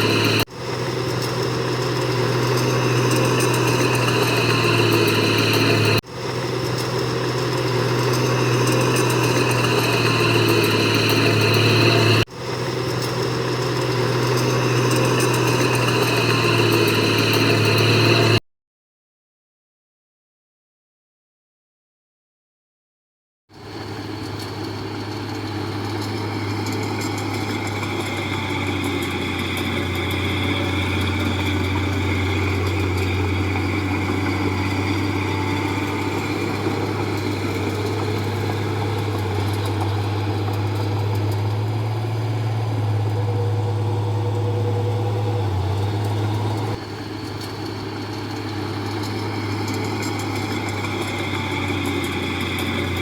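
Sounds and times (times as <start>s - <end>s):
heavy diesel engine running: 0.0s - 18.4s, 23.5s - 53.0s.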